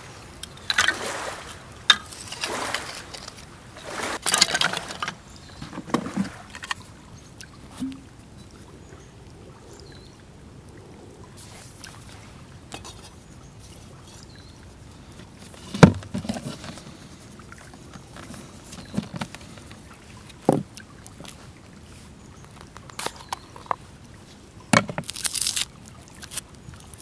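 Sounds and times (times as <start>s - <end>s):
water lapping at shore: 0.0s - 27.0s.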